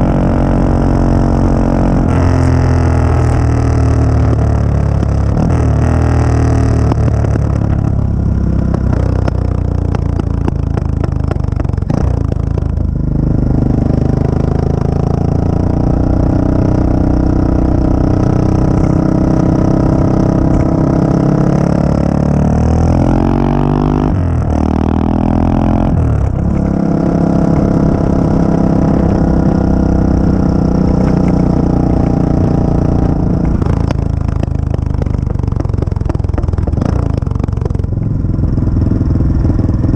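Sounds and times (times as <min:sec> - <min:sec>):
motorcycle exhaust revving: 0:00.0 - 0:39.9.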